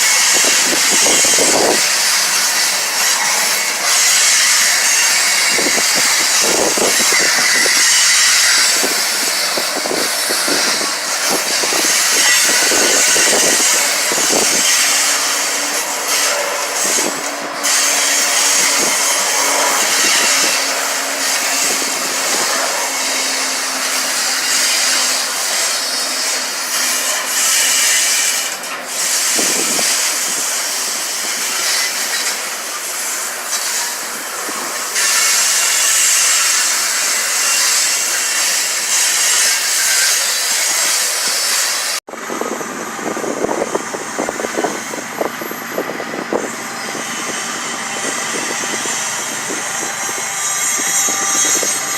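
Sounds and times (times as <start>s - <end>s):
freight train wheels rushing: 0.0s - 51.9s.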